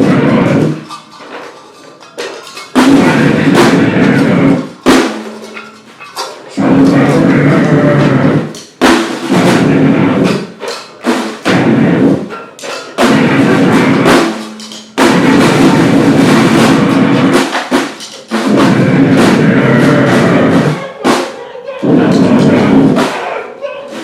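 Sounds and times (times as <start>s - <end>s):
noise-grind band blasts: 0.0s - 1.4s, 2.7s - 23.4s.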